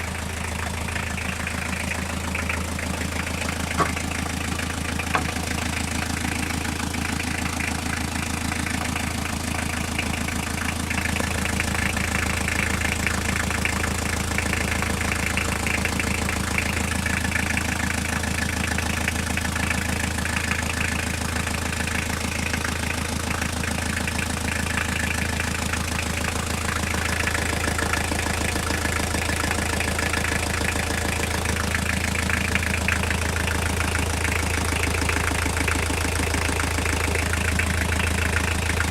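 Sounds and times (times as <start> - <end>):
diesel engine idling with knocking: 0.0 - 38.9.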